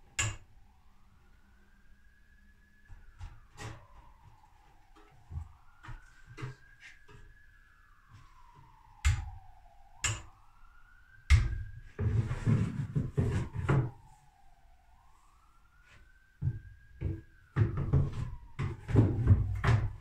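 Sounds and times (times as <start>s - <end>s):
faint siren wailing: 0.0s - 20.0s.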